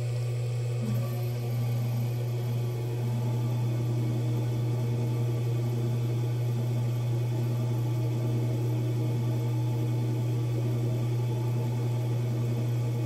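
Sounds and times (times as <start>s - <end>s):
potter's wheel humming: 0.0s - 13.0s.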